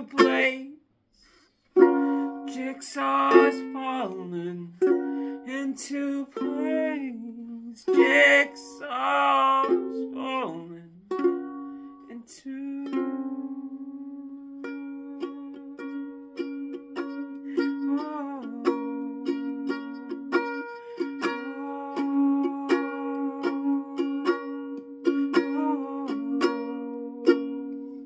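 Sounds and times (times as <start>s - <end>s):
ukulele strummed and picked: 0.0s - 0.7s, 1.8s - 28.0s
man singing long notes: 0.0s - 0.8s, 1.8s - 11.2s, 12.1s - 27.8s.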